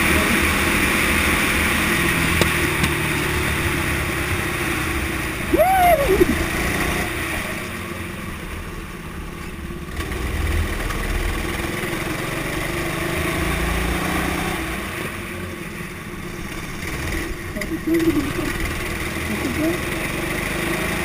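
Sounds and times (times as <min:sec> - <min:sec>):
kart engine running: 0:00.0 - 0:21.0.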